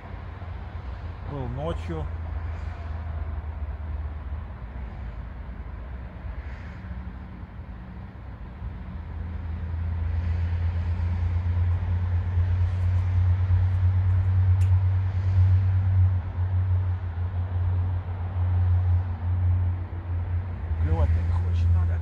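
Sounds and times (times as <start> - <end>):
heavy traffic engine rumble: 0.0 - 22.0.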